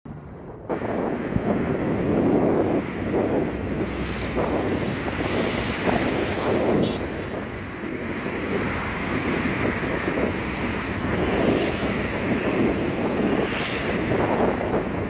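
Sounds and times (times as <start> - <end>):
wind buffeting microphone: 0.1 - 15.0
sea surf roaring: 0.2 - 15.0.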